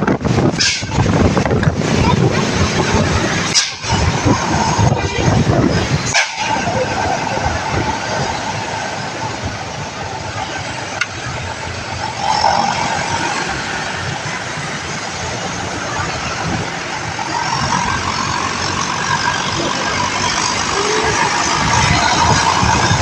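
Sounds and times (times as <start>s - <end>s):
road vehicles driving: 0.0s - 23.0s.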